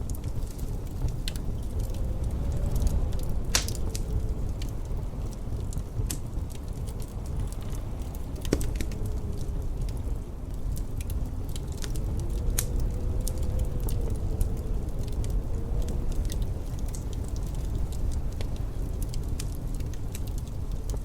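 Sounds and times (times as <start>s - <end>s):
low rumble of wind: 0.0s - 21.0s
wood fire crackling: 0.0s - 21.0s.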